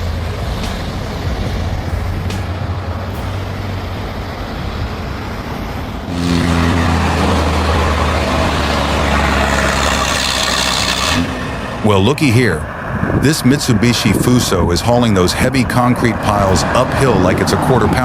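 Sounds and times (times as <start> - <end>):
heavy truck engines running: 0.0 - 18.0.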